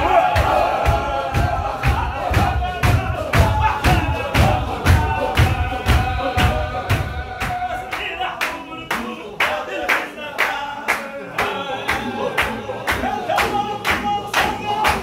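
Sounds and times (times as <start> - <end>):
men chanting in unison: 0.0 - 15.0
sharp hand claps: 1.8 - 15.0.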